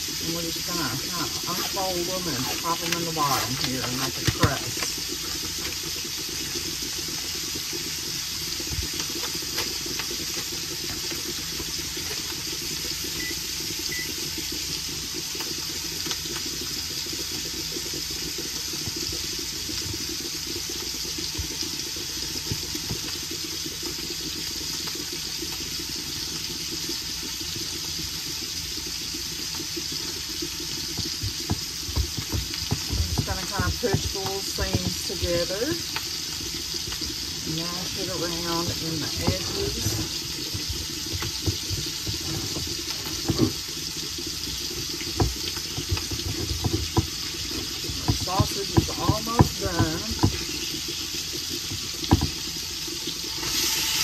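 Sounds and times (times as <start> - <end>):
sausage sizzling in a pan: 0.0 - 54.0.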